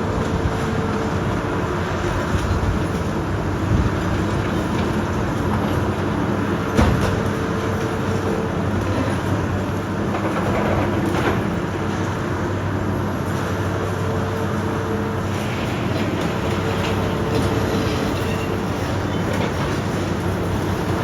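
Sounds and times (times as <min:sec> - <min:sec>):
demolition machinery engine drone: 0:00.0 - 0:21.0.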